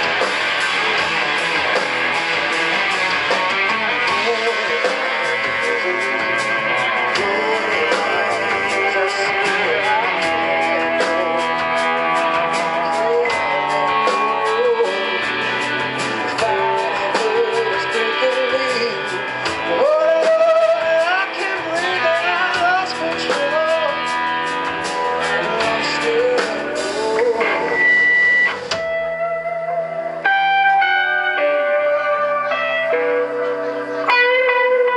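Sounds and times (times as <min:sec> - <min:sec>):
blues-rock band playing: 0:00.0 - 0:34.9.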